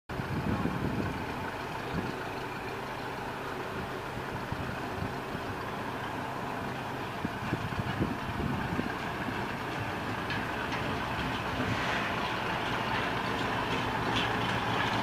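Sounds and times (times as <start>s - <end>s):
locomotive diesel engine running: 0.1s - 15.0s.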